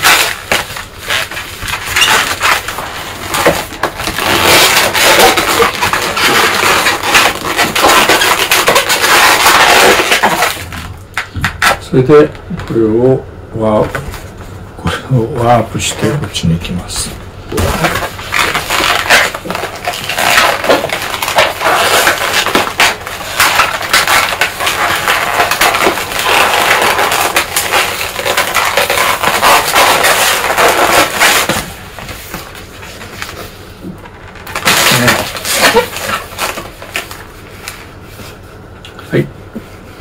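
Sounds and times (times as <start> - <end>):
balloons squeaking and rubbing: 0.0 - 10.9, 15.4 - 38.4.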